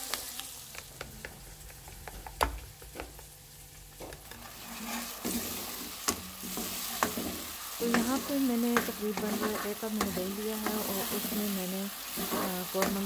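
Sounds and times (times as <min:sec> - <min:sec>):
onions sizzling: 0:00.0 - 0:13.0.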